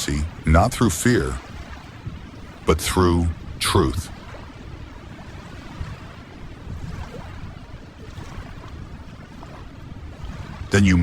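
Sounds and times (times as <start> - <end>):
ocean waves: 0.0 - 11.0.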